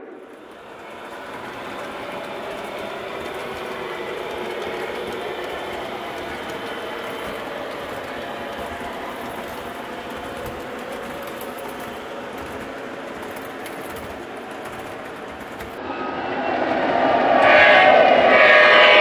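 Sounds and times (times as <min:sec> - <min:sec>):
model train wheels clattering: 0:00.0 - 0:15.8
model locomotive approaching: 0:00.0 - 0:19.0.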